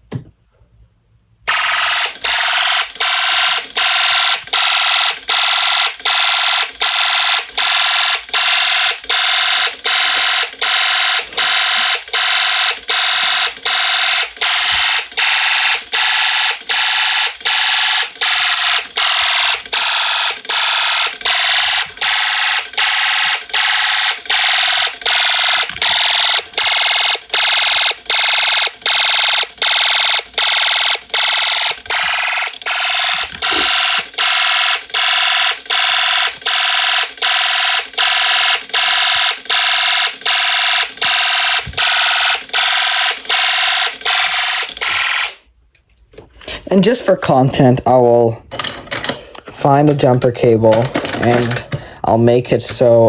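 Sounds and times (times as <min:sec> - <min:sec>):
harsh high-pitched electronic alarm: 0:01.5 - 0:45.4.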